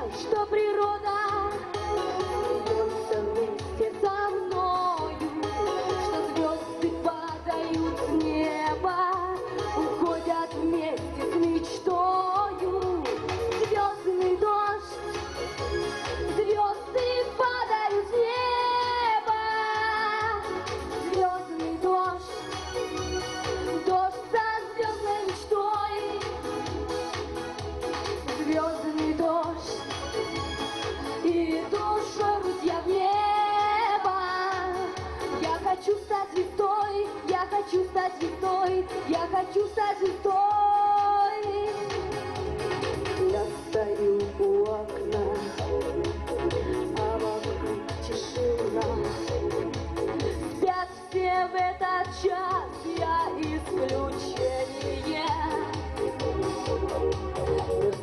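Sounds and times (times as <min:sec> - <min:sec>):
girl singing pop song: 0:00.0 - 0:58.0
music with steady beat: 0:00.0 - 0:58.0.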